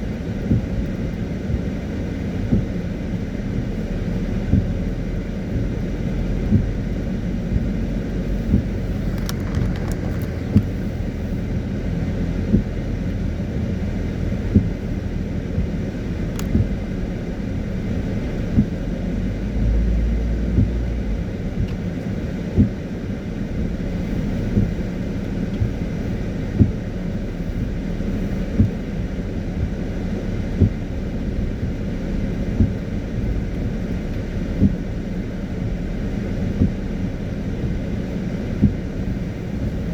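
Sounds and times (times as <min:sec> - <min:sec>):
car engine and wet tyres rumble: 0:00.0 - 0:39.9
windscreen wipers knocking: 0:00.0 - 0:39.9.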